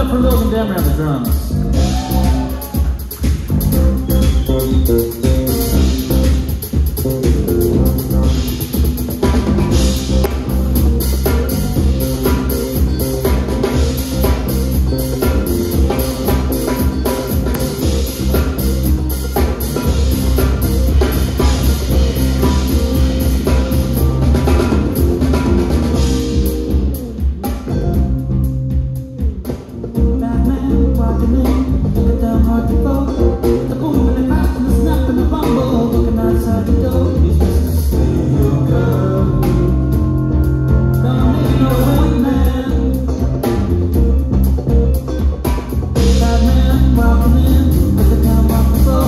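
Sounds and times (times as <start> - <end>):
bass groove: 0.0 - 49.0
drum kit: 0.0 - 49.0
live funk band playing: 0.0 - 49.0.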